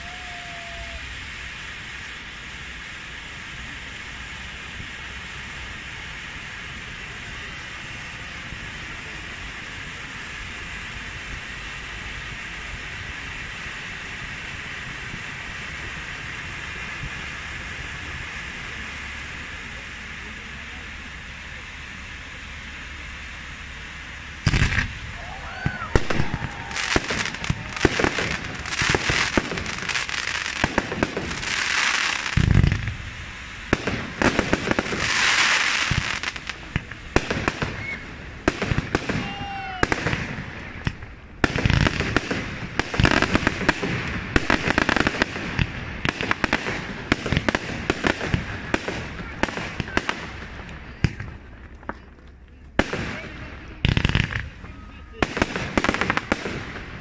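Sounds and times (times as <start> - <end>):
fireworks bangs and crackling: 0.0 - 57.0
fireworks hissing: 0.0 - 57.0
fireworks whistles: 0.0 - 57.0
steady background noise: 0.0 - 57.0.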